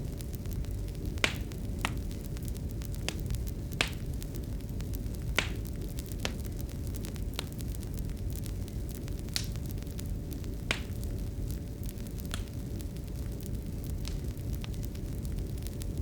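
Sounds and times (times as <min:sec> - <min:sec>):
low fire rumble: 0:00.0 - 0:16.0
wood fire crackling: 0:00.0 - 0:16.0.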